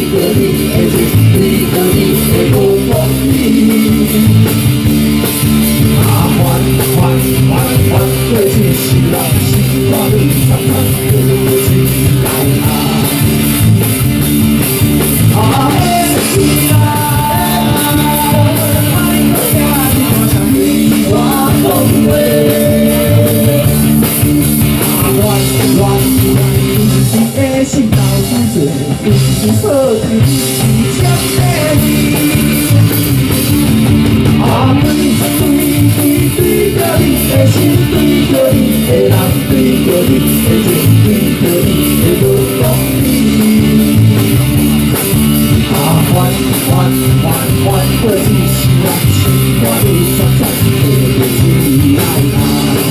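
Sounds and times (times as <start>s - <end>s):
electric guitar lead bending: 0.0s - 52.9s
live rock band playing: 0.0s - 52.9s.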